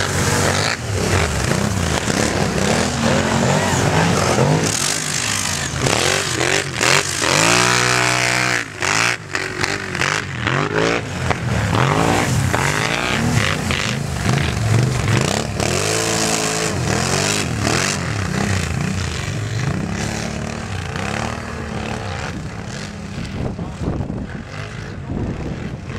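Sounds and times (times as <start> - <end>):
atv engines revving: 0.0 - 25.9.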